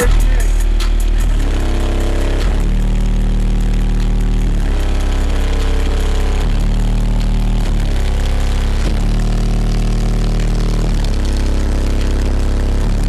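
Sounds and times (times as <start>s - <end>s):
heavy bass from car subwoofers: 0.0s - 13.0s.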